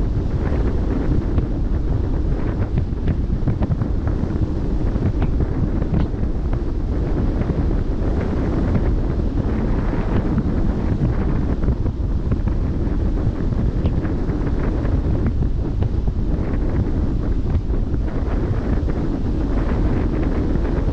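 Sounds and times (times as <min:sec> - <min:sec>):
wind rushing over microphone: 0:00.0 - 0:20.9.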